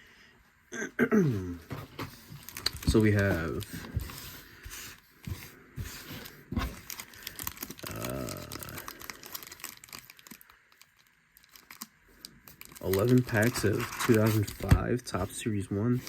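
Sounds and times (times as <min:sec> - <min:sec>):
foil wrappers crinkling: 0:01.9 - 0:16.0.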